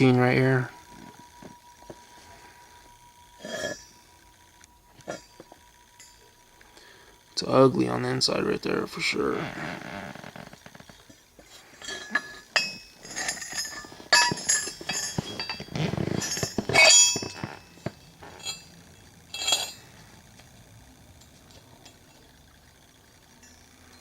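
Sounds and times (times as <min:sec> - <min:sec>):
steel pieces clinking: 0:00.0 - 0:07.5, 0:11.0 - 0:20.4, 0:21.1 - 0:24.0.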